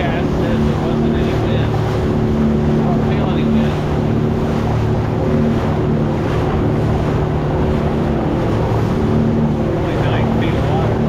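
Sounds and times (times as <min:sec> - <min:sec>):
motorboat engine humming: 0:00.0 - 0:11.0
water splashing on hull: 0:00.0 - 0:11.0.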